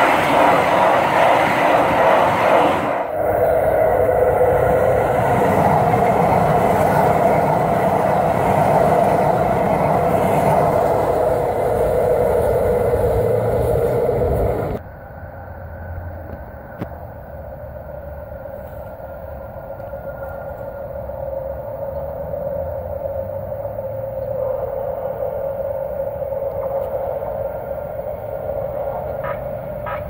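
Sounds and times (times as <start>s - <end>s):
train wheels rumbling on rails: 0.0s - 14.8s, 16.1s - 30.0s
outdoor ambience: 0.0s - 30.0s.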